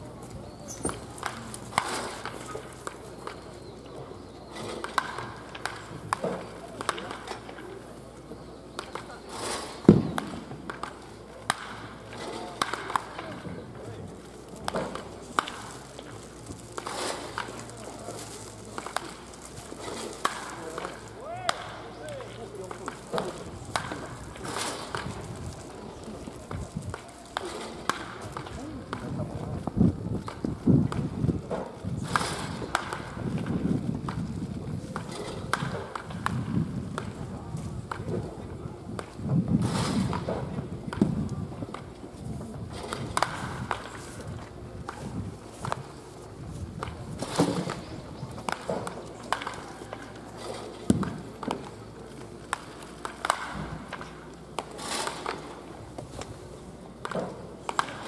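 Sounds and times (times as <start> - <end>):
wooden bat cracking baseball: 0.4 - 58.0.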